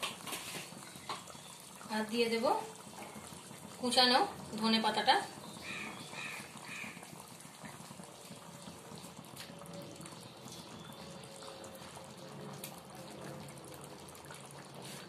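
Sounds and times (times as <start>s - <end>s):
gravy bubbling in a pan: 0.0s - 15.0s.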